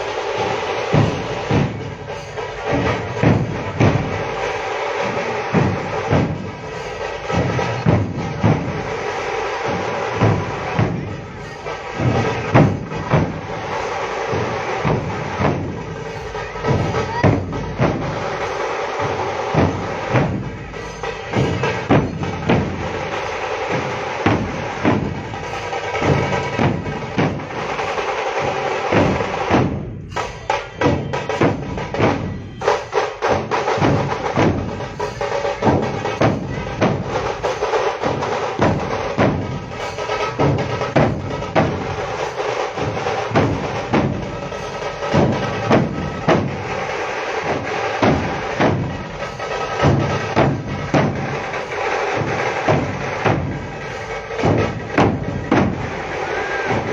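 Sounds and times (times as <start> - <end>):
drum-driven music: 0.0 - 56.9.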